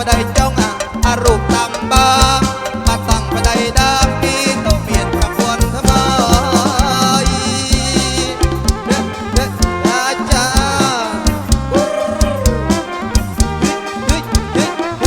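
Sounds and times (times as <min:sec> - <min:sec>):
live band music through speakers: 0:00.0 - 0:15.0
steady drum beat: 0:00.0 - 0:15.0
wavering lead melody: 0:00.0 - 0:15.0.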